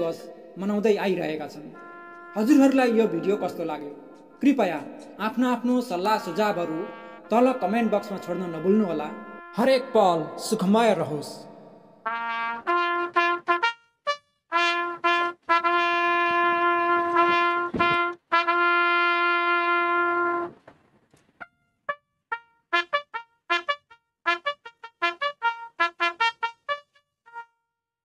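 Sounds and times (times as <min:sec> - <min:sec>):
solo trumpet melody: 0:01.6 - 0:10.7, 0:12.0 - 0:20.6, 0:21.9 - 0:27.6.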